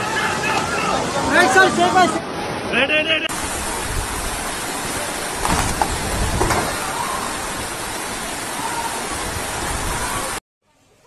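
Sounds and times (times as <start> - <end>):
floodwater rushing: 0.0 - 10.4.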